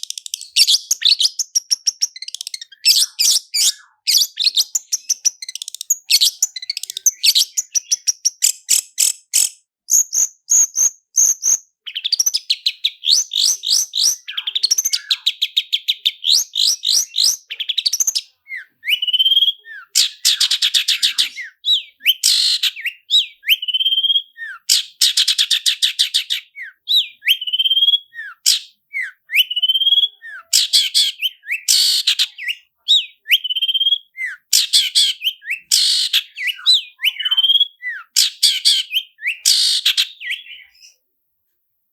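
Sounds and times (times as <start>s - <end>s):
shrike singing rattling song: 0.0s - 41.0s.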